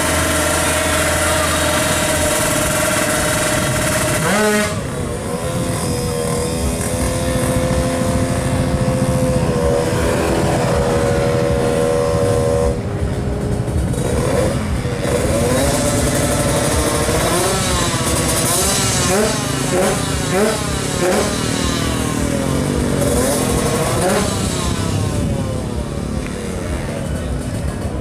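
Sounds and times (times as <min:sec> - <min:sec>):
two-stroke engine revving hard: 0:00.0 - 0:28.0.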